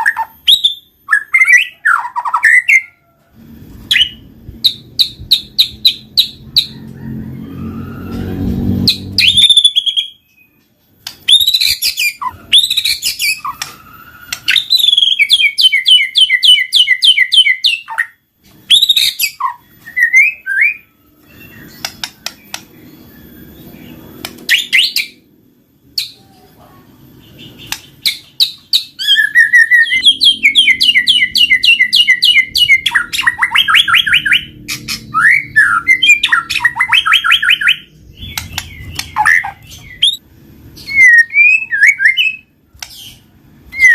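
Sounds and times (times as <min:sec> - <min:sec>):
bird singing whistles and trills: 0:00.0 - 0:02.9, 0:03.9 - 0:06.7, 0:08.8 - 0:25.2, 0:27.3 - 0:40.2, 0:40.8 - 0:43.9.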